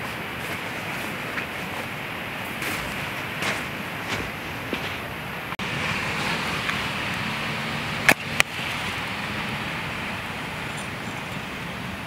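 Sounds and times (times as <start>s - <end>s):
surf rushing: 0.0s - 12.0s
wind: 0.0s - 12.0s.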